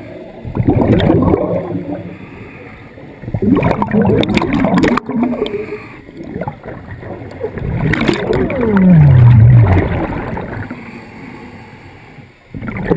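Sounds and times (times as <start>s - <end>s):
underwater bubbling: 0.0s - 12.9s.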